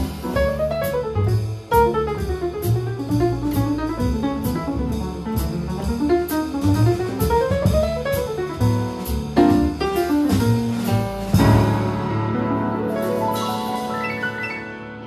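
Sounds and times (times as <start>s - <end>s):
jazz piano trio: 0.0s - 15.0s.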